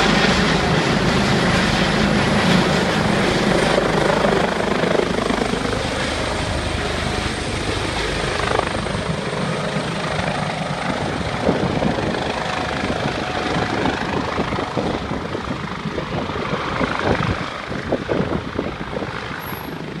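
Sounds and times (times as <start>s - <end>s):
helicopter rotor and turbine noise: 0.0s - 20.0s.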